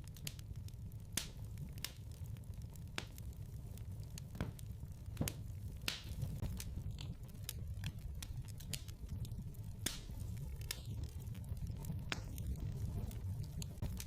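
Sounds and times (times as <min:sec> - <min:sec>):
fire crackles and pops: 0:00.0 - 0:14.0
low rumble of flames: 0:00.0 - 0:14.0.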